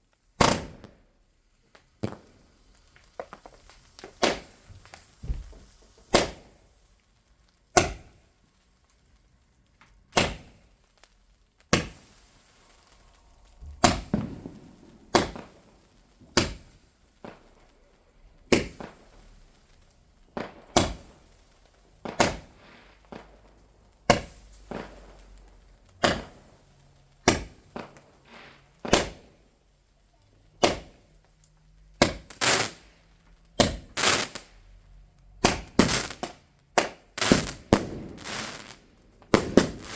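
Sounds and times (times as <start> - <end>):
fireworks bangs: 0.4 - 6.9, 10.0 - 29.6, 30.2 - 31.2, 32.0 - 39.9.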